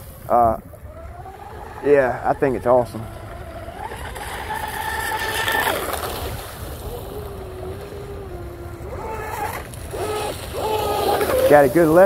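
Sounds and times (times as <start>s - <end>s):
model boat electric motor whine: 0.0s - 12.0s.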